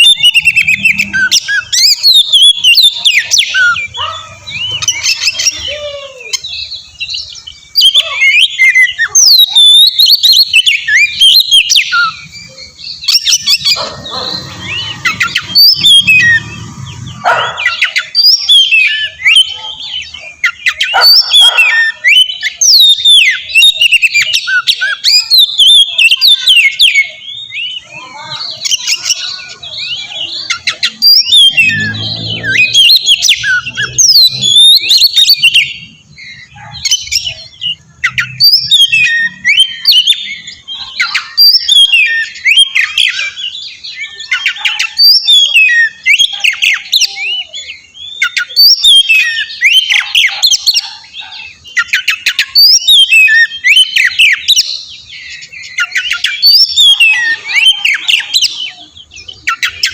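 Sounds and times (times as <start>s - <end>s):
bird singing whistles and chatter: 0.0s - 59.9s.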